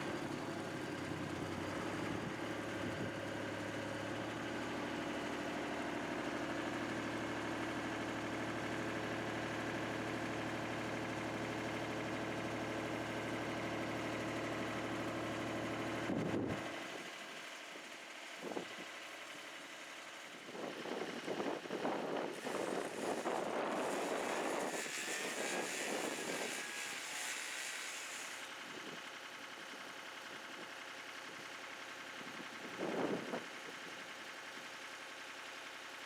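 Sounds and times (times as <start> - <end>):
engine running: 0.0 - 30.6.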